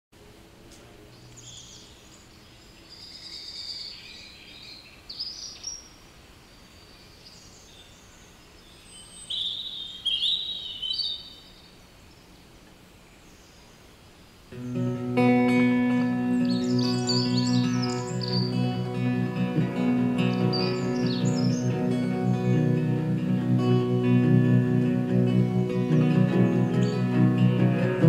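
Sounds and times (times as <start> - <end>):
faint hiss: 0.2 - 23.7
songbirds chirping: 0.2 - 28.0.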